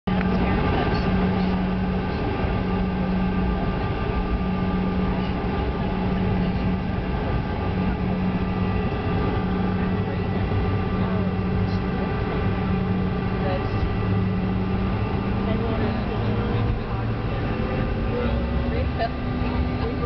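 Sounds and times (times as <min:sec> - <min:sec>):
airliner engines and airflow rumble: 0:00.1 - 0:20.0
high steady whine: 0:00.1 - 0:20.0.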